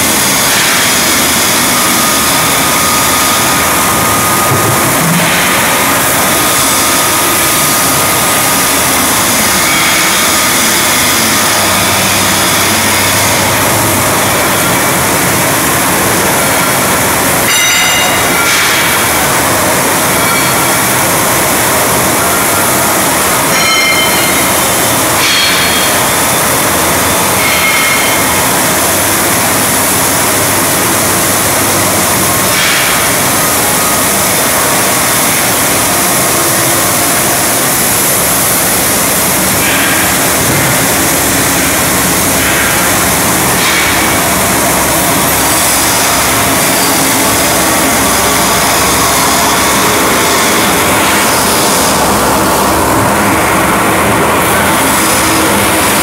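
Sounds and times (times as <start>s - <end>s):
machinery rushing noise: 0.0s - 56.0s.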